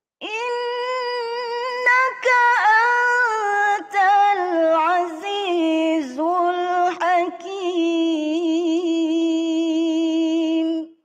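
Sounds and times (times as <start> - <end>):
woman reciting melodically: 0.2 - 11.0.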